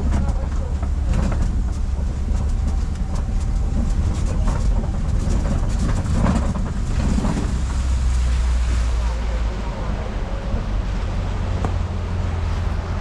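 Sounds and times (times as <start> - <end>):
truck engine and road rumble: 0.0 - 13.0
vehicle rattles and knocks: 0.0 - 13.0.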